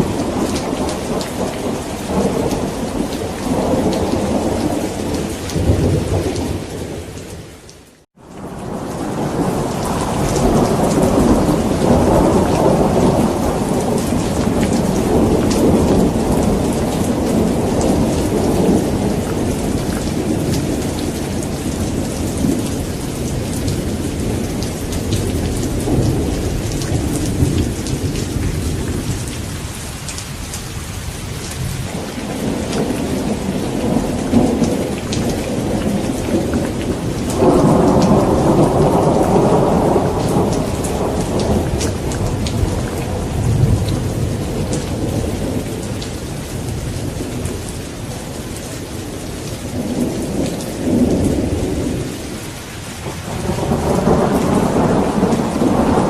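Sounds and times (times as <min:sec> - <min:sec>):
low rolling thunder: 0:00.0 - 0:07.4, 0:08.2 - 0:29.9, 0:30.8 - 0:56.0
heavy rain: 0:00.0 - 0:56.0.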